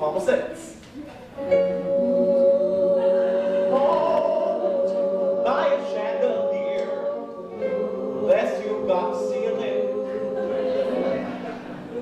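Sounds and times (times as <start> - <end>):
man singing: 1.8 - 11.5.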